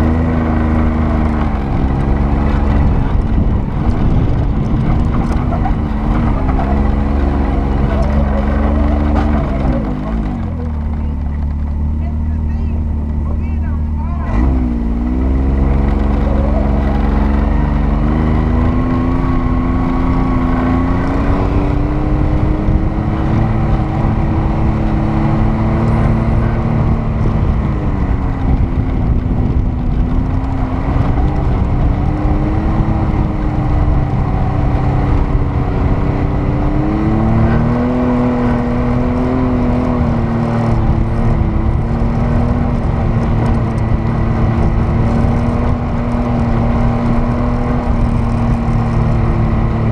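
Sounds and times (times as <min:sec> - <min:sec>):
off-road vehicle engine: 0:00.0 - 0:49.9
rush of driving noise: 0:00.0 - 0:49.9.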